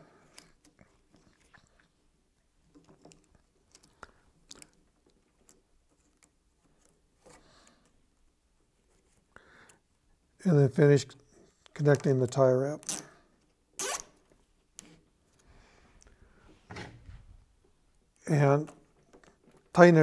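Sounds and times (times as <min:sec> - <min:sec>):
cable tie clicking and scraping: 0:00.0 - 0:09.8, 0:11.4 - 0:16.2, 0:18.2 - 0:20.0.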